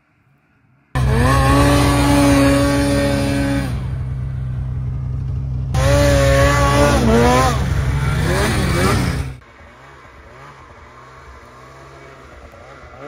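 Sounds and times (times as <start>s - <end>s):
snowmobile engine revving: 1.0s - 13.0s.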